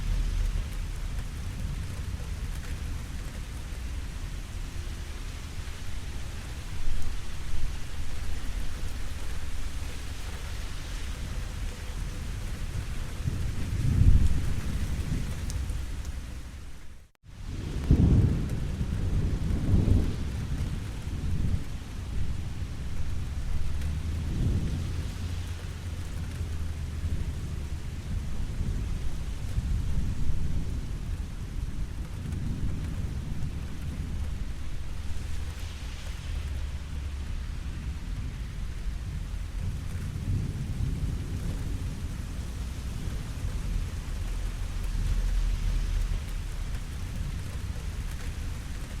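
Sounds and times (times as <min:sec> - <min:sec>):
low thunder rumbles: 0:00.0 - 0:49.0
rain falling: 0:00.0 - 0:49.0.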